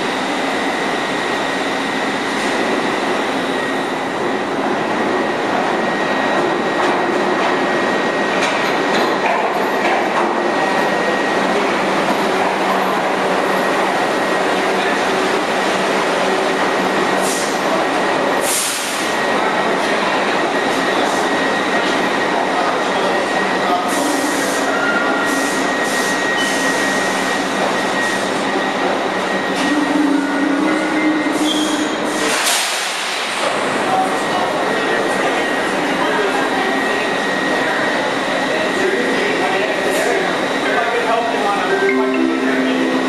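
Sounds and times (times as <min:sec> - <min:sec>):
subway train wheels and motors: 0:00.0 - 0:43.0.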